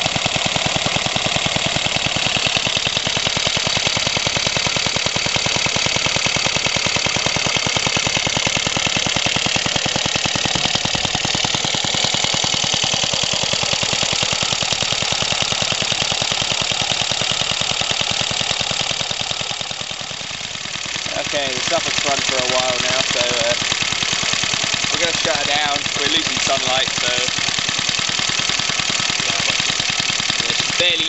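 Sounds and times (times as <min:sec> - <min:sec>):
two-stroke stationary engine running: 0:00.0 - 0:31.0.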